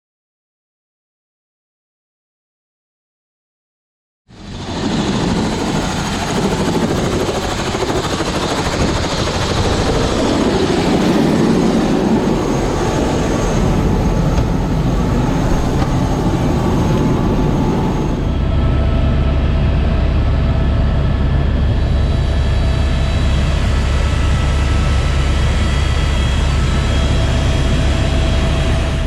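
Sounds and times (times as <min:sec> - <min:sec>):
aircraft engine drone: 0:04.3 - 0:29.0.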